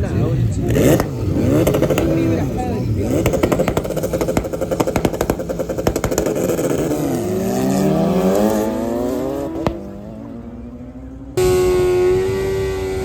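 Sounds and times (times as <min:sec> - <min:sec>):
racing engine revving: 0:00.0 - 0:13.0.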